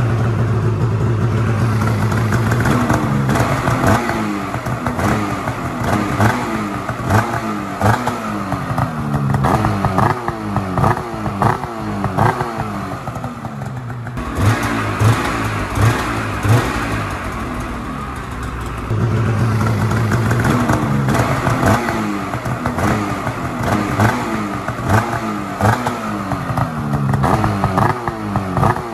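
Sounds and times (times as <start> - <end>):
snowmobile engine idling: 0.0 - 28.9
snowmobile engine revving: 1.0 - 28.9.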